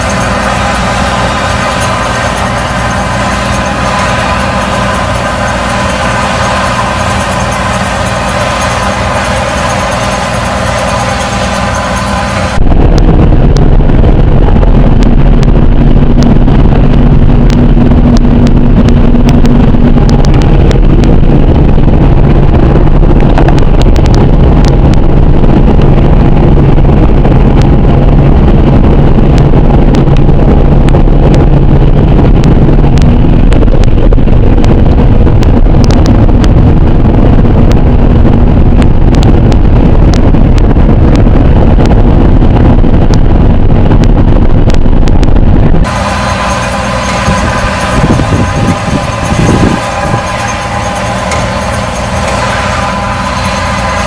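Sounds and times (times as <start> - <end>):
machinery engine running: 0.0 - 54.0
steady engine hum: 0.0 - 54.0
wind buffeting microphone: 0.0 - 54.0.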